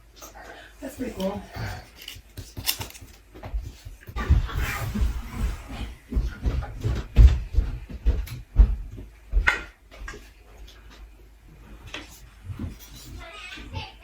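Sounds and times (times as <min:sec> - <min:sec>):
fan parts knocking and rattling: 0:00.0 - 0:14.0.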